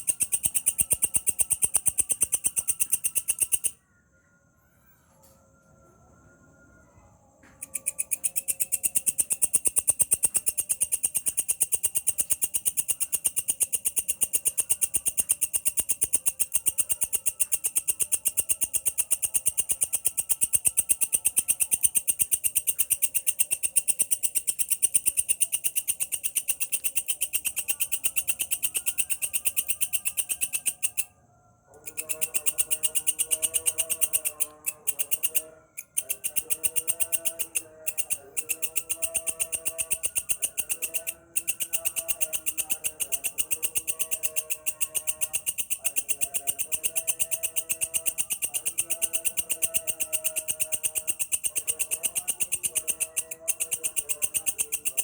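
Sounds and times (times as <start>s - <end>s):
insect fast pulsing trill: 0.0s - 3.9s, 6.2s - 55.0s.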